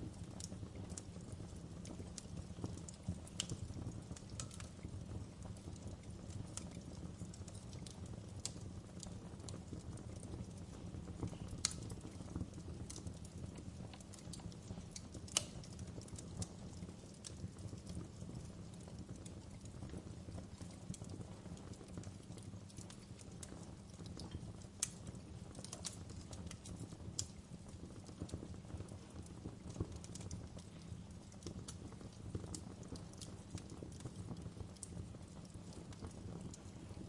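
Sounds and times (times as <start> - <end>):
burning wood crackling: 0.0 - 37.0
fire rumbling: 0.0 - 37.0
wood fire pops: 0.0 - 37.0.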